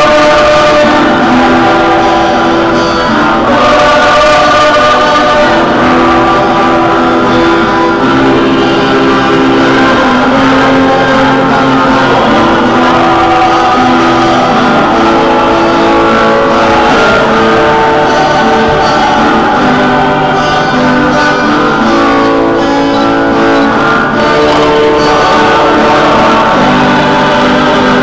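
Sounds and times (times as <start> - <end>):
guitar: 0.0 - 28.0
people singing: 0.0 - 28.0.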